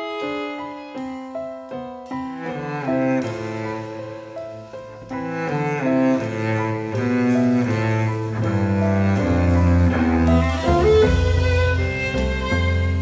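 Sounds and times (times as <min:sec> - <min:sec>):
tango ensemble chords: 0:00.0 - 0:13.0
bowed double bass: 0:02.1 - 0:13.0.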